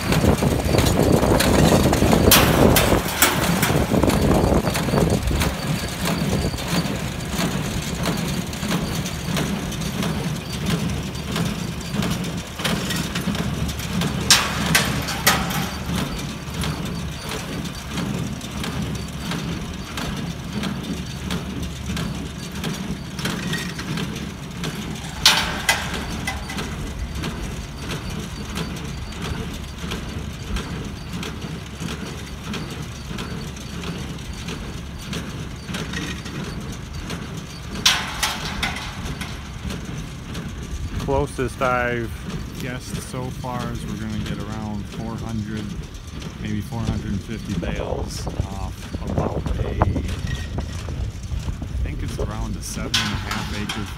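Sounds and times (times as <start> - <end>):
baler mechanical clatter: 0.0 - 53.9
sharp metallic clanks: 0.0 - 53.9
tractor diesel under load: 0.0 - 53.9.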